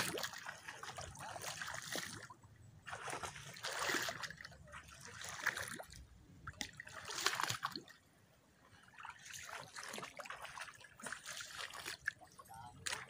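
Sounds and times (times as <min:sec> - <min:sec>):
people wading through water: 0:00.0 - 0:13.0.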